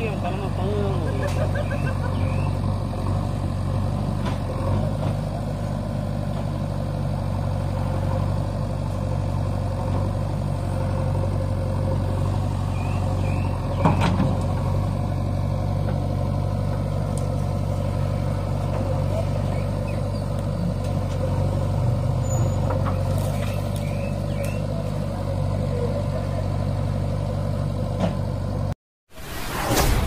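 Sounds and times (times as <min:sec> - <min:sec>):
tractor diesel engine idling: 0:00.0 - 0:28.7.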